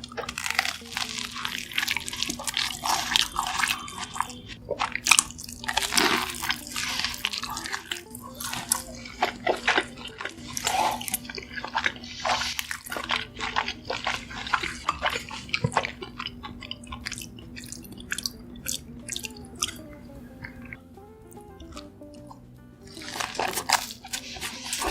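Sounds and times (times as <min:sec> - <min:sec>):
wet chewing and mouth smacks: 0:00.0 - 0:24.9.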